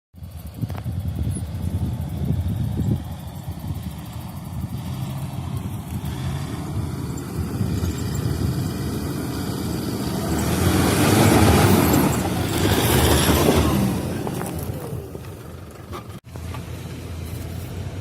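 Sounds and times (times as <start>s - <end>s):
diesel engine running off-road: 0.1s - 18.0s.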